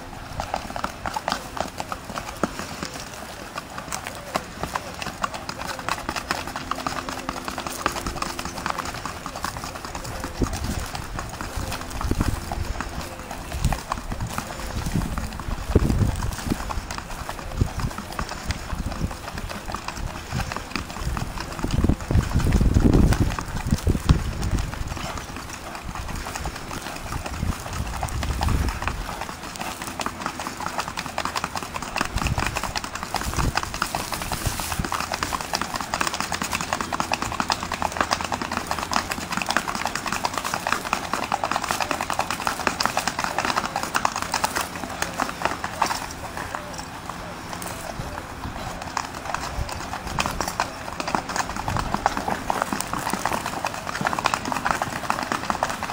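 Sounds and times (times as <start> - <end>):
hoofbeats on sand: 0.0 - 55.9.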